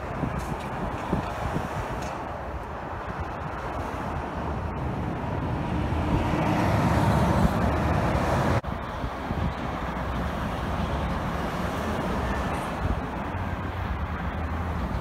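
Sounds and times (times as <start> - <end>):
freeway traffic noise: 0.0 - 15.0.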